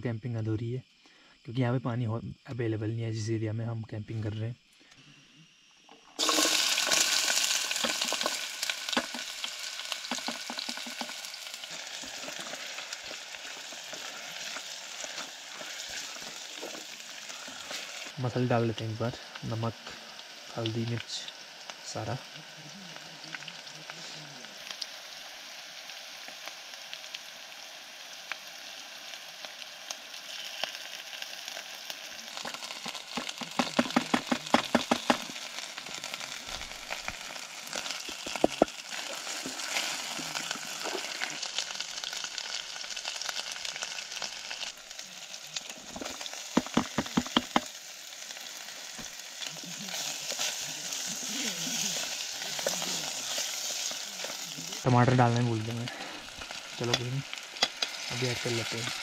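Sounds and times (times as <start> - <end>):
onions sizzling in a pan: 0.6 - 59.0.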